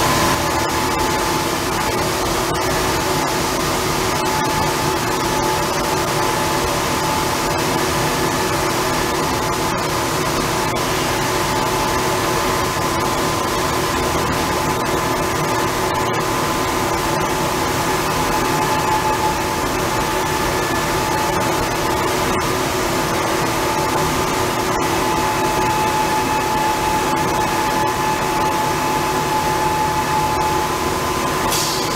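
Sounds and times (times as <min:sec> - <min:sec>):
high machine whine: 0:00.0 - 0:31.9
machinery hums: 0:00.0 - 0:31.9.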